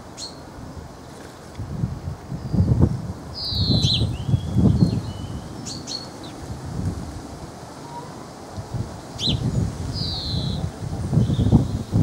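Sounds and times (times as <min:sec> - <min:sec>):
wind buffeting microphone: 0:01.6 - 0:12.0.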